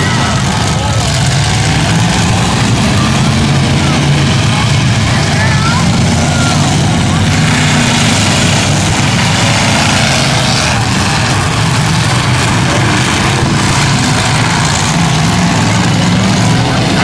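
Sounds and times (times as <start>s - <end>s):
truck engines running: 0.0s - 17.0s.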